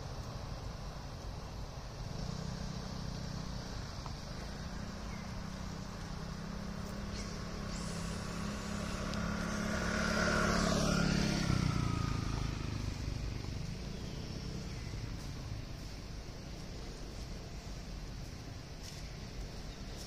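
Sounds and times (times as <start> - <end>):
vehicle driving past: 1.9 - 20.0.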